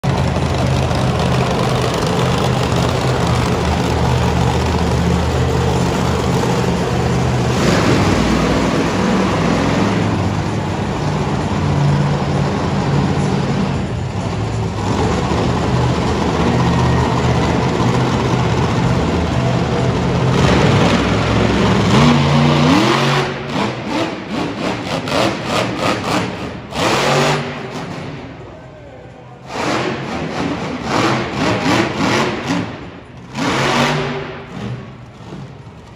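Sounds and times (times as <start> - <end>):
truck engine running hard: 0.0 - 35.9.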